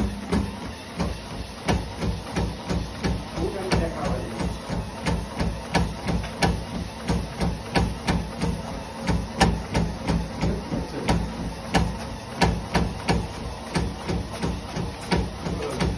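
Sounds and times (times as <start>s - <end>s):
treadmill deck thudding: 0.0s - 15.9s.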